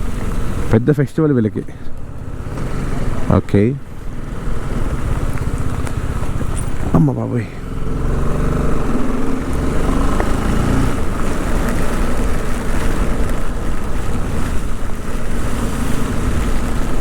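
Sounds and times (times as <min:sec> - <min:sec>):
motorcycle engine running: 0:00.0 - 0:17.0
rain hiss: 0:00.0 - 0:17.0.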